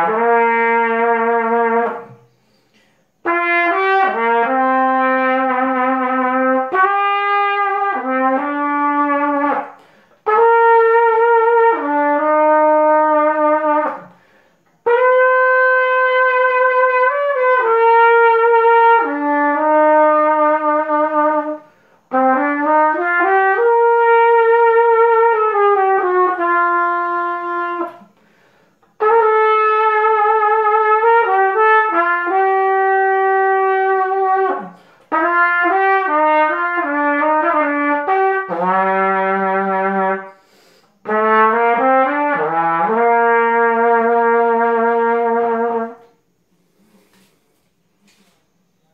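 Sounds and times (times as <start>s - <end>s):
solo trumpet melody: 0.0s - 2.6s, 3.2s - 28.2s, 28.8s - 47.2s.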